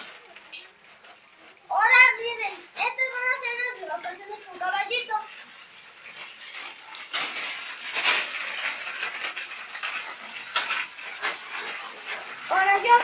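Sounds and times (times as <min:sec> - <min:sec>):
bike rattling on concrete: 0:00.0 - 0:13.0.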